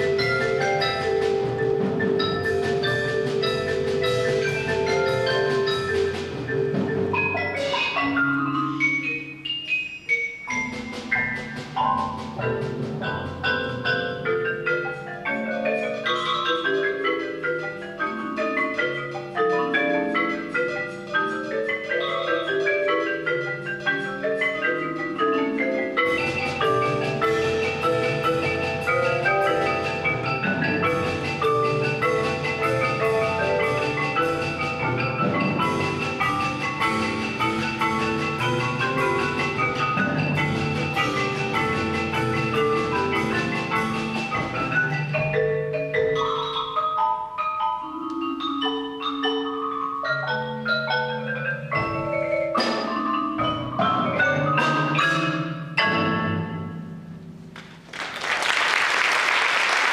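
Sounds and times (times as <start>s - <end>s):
marimbas playing rapid runs: 0.0s - 59.9s.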